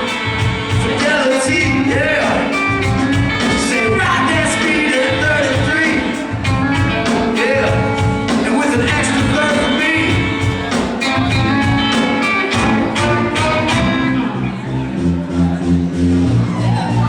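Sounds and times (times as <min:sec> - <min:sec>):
drums: 0:00.0 - 0:17.0
live band playing: 0:00.0 - 0:17.0.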